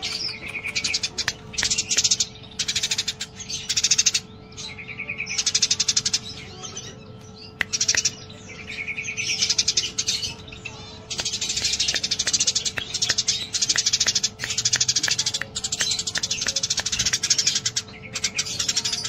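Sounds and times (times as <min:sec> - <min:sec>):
sparrow chattering chirps: 0:00.0 - 0:19.0.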